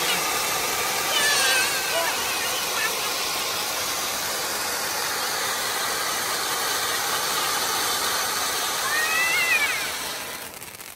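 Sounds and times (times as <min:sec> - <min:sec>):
fireworks spraying sparks hissing: 0:00.0 - 0:10.9.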